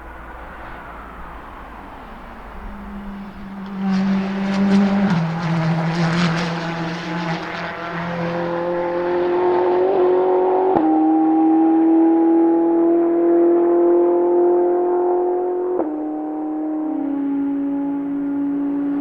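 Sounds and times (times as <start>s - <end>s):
race car engine accelerating: 1.7s - 19.0s.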